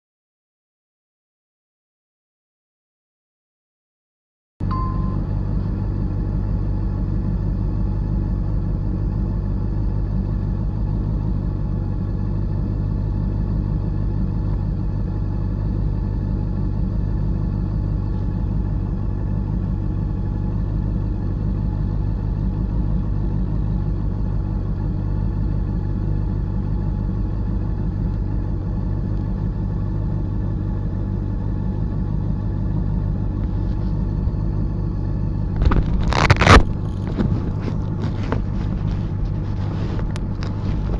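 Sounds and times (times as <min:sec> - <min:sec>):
motorcycle engine running steadily: 0:04.6 - 0:40.9.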